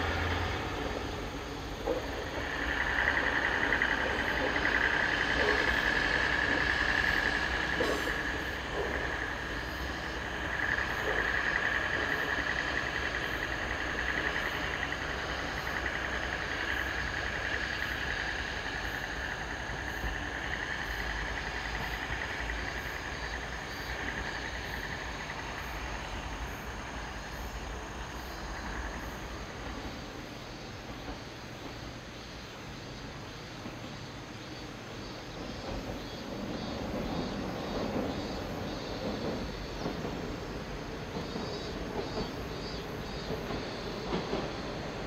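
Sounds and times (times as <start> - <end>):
distant diesel engine rumble: 0.0 - 45.0
insects trilling: 0.0 - 45.0.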